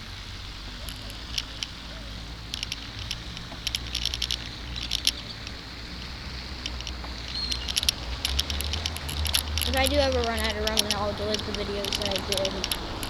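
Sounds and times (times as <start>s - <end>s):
bicycle clicking and rattling: 0.0s - 13.0s
wind rumble on microphone: 0.0s - 13.0s.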